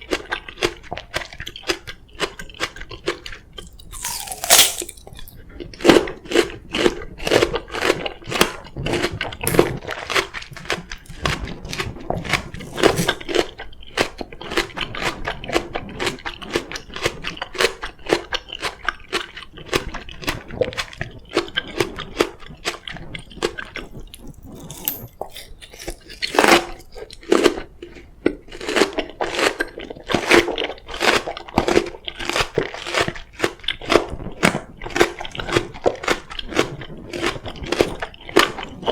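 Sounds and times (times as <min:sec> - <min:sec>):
crunching and chewing melon: 0:00.0 - 0:38.9.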